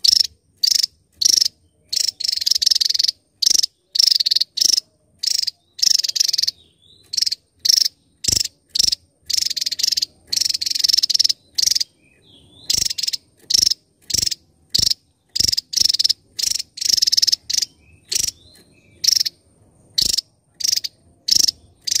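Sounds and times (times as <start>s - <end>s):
bird singing trilled bursts: 0.0s - 22.0s.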